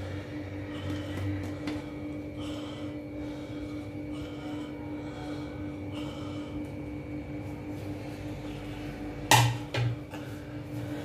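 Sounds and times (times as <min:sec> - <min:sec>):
steady kitchen hum: 0:00.0 - 0:11.0.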